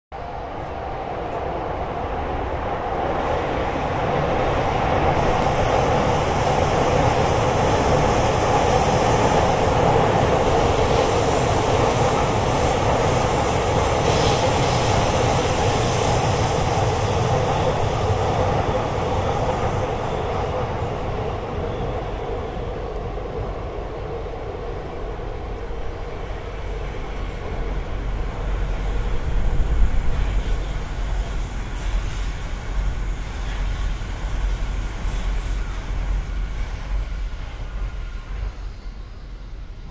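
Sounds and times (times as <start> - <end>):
rail and wheel noise: 0.1 - 39.9
passing train deep rumble: 0.2 - 39.9.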